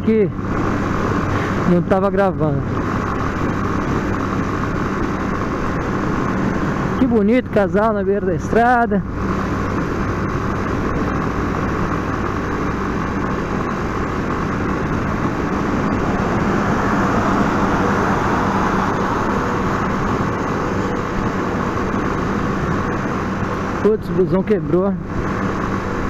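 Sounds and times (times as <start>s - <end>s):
motorcycle engine hum: 0.0s - 26.0s
wind rushing over microphone: 2.6s - 26.0s.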